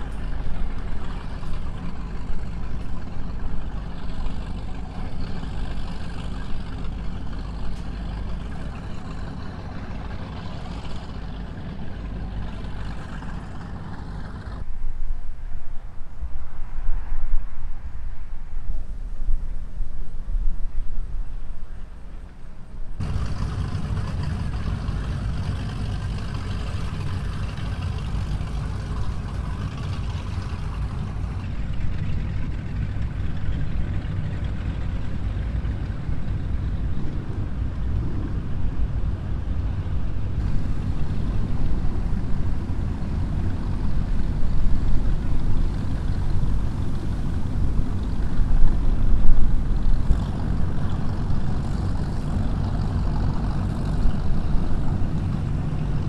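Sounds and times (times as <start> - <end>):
boat engines rumbling: 0.0 - 14.8, 18.9 - 56.0.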